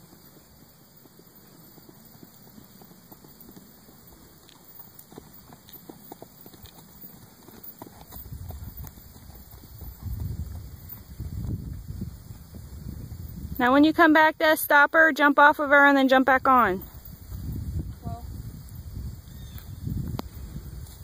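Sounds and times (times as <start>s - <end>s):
horse hooves on dirt: 0.0s - 18.0s, 19.6s - 21.0s.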